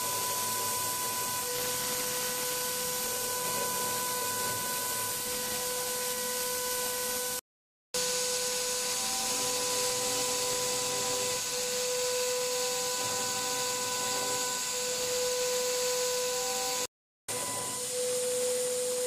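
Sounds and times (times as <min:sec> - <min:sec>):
machine spindle whining: 0:00.0 - 0:07.4, 0:08.0 - 0:19.0.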